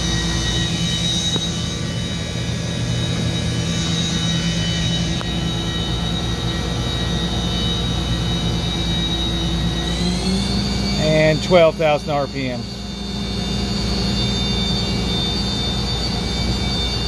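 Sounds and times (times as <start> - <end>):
machine spindle whining: 0.0 - 17.0.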